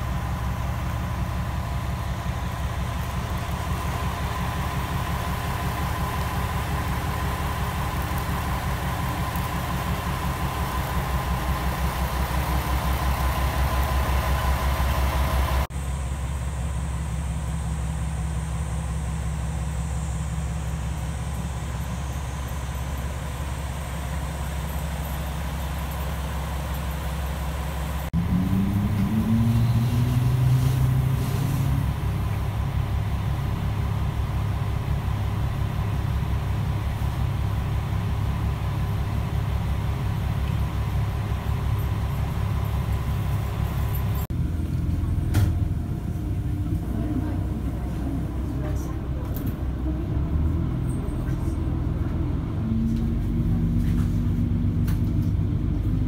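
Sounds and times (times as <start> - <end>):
diesel railcar engine idling: 0.0 - 56.0
railcar engine revving up: 0.0 - 56.0.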